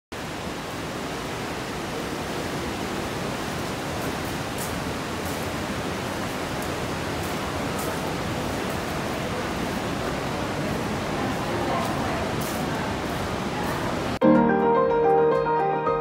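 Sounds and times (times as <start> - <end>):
fast-flowing river water: 0.2 - 14.2.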